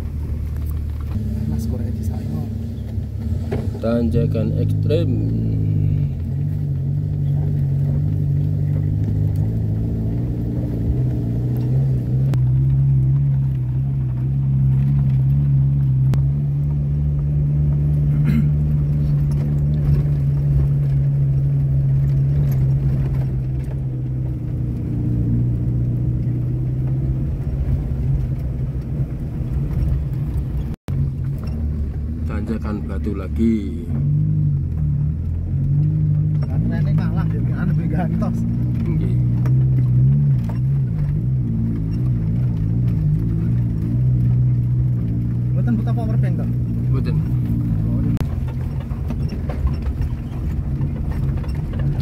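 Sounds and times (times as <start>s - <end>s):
engine pulling under load: 0.0s - 52.0s.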